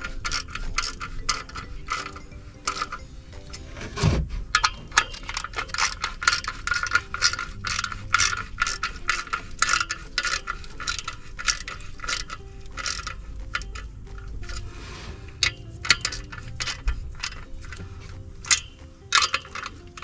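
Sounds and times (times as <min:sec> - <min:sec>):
ratchet wrench clicking: 0:00.0 - 0:03.7, 0:04.5 - 0:14.7, 0:15.3 - 0:20.0.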